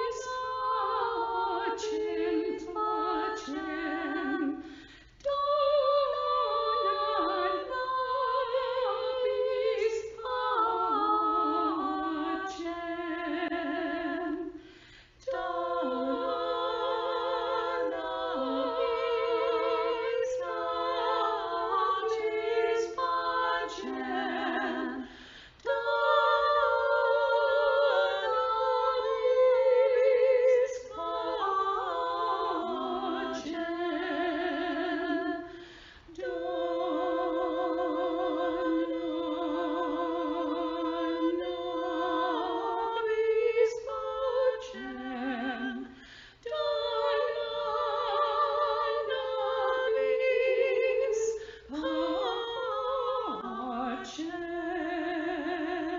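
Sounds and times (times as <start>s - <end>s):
voices singing a hymn in harmony: 0.0s - 55.9s.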